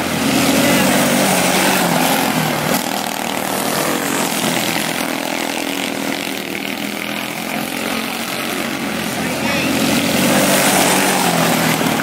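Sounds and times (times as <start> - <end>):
small race car engines buzzing: 0.0 - 12.0.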